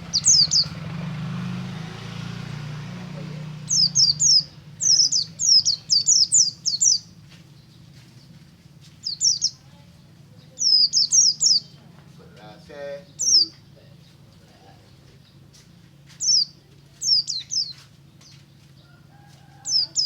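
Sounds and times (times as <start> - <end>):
bird singing high chirps: 0.0 - 12.0, 12.8 - 14.2, 14.8 - 18.4, 19.6 - 20.0.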